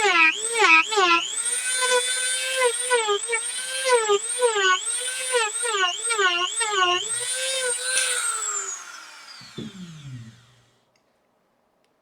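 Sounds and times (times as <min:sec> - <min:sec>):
rotary tool grinding: 0:00.0 - 0:10.7.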